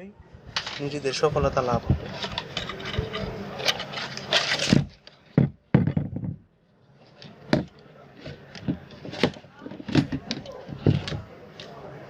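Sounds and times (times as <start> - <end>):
fan parts knocking and scraping: 0.6 - 6.4, 7.2 - 11.4.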